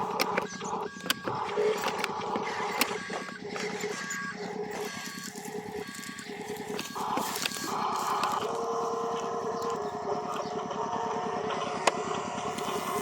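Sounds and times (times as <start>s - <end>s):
scattered clicks: 0.0s - 10.7s
toy motor buzzing rattle: 0.0s - 10.7s, 12.4s - 13.0s.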